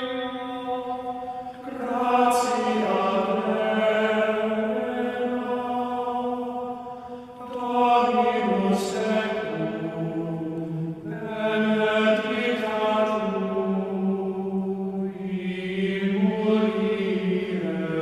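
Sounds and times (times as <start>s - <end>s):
slow chant in long held notes: 0.0s - 18.0s.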